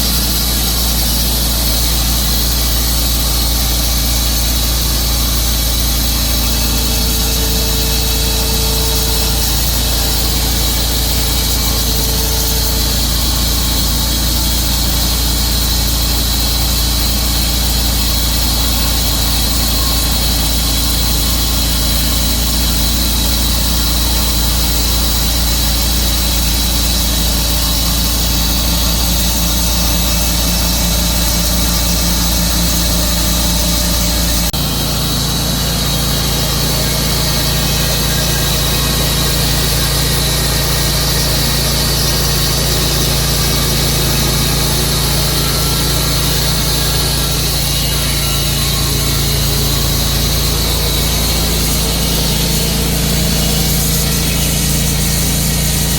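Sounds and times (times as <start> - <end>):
bandsaw sawmill cutting log: 0.0 - 55.9.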